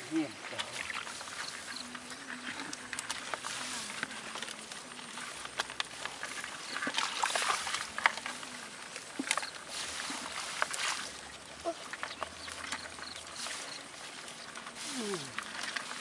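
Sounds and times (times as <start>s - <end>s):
dry straw rustling and crackling: 0.0s - 16.0s
small irregular clicks: 0.5s - 9.7s, 11.6s - 16.0s.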